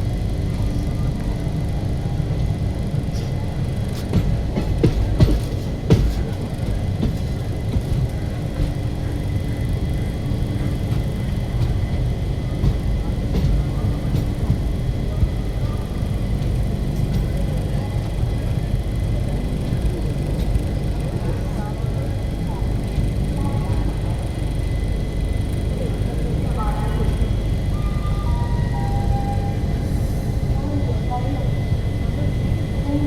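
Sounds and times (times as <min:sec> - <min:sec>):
train rumbling on rails: 0:00.0 - 0:33.0
sharp clacks of train wheels: 0:03.0 - 0:29.9.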